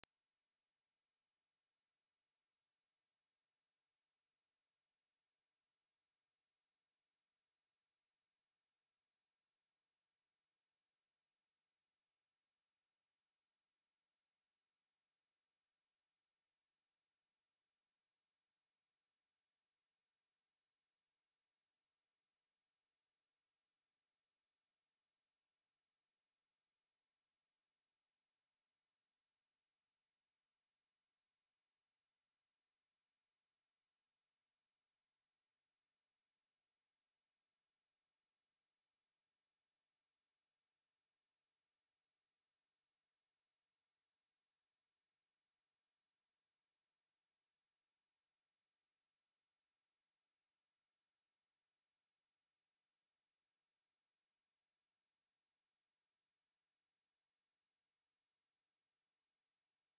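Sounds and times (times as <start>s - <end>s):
high-pitched sine test tone: 0.0s - 59.9s.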